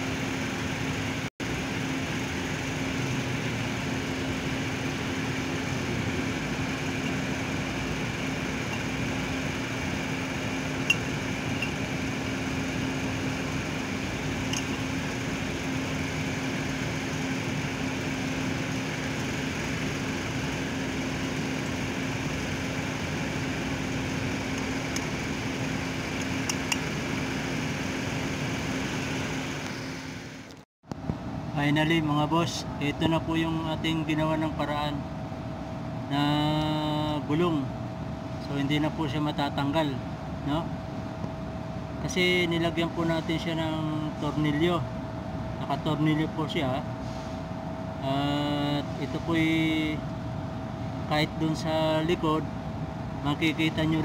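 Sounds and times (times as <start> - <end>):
machine hum with low drone: 0.0 - 54.0.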